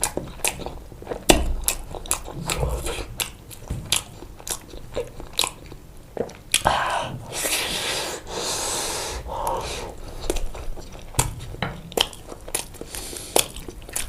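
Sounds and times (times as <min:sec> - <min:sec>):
wet chewing: 0:00.0 - 0:06.8, 0:09.3 - 0:14.0.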